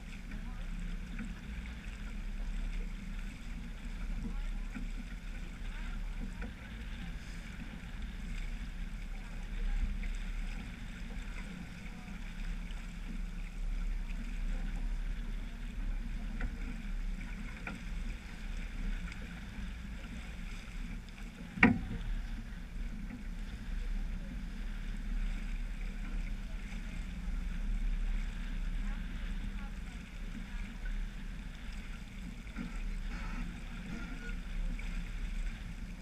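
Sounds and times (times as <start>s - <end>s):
water rushing along boat hull: 0.0s - 36.0s.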